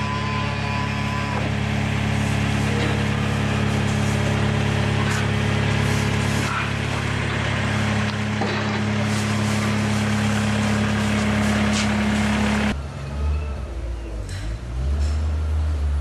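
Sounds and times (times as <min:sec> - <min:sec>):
loader engine idling: 0:00.0 - 0:16.0.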